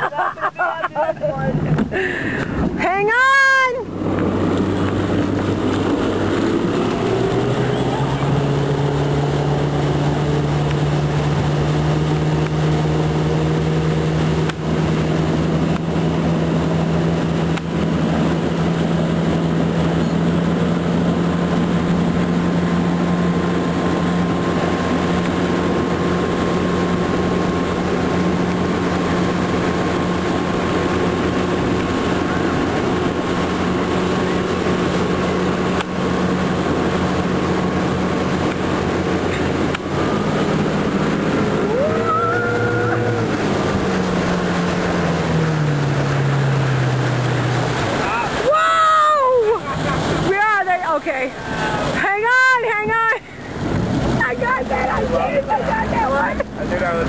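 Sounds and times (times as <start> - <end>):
motorboat engine running: 0.0 - 57.0
wake rushing: 0.0 - 57.0
wind: 0.0 - 57.0.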